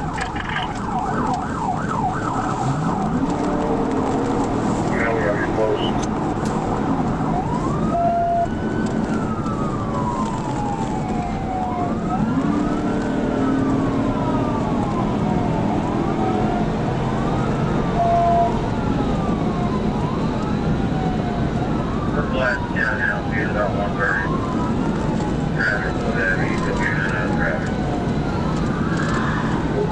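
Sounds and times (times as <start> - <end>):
police siren wailing: 0.0 - 29.9
road and engine noise: 0.0 - 29.9.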